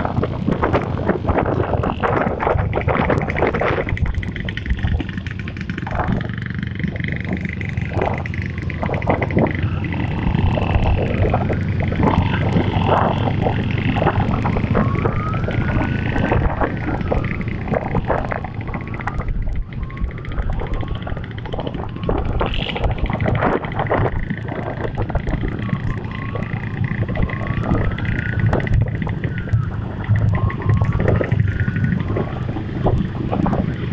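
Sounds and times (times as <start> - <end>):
motorcycle engines running: 0.0 - 33.9
wailing siren-like tone: 0.0 - 33.9
wind buffeting microphone: 0.0 - 33.9.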